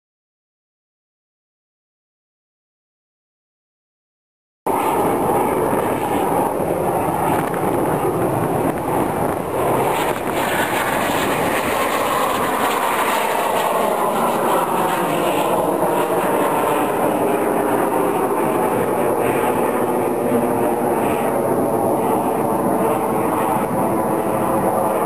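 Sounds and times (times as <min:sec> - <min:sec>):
jet flying overhead: 0:04.7 - 0:25.0.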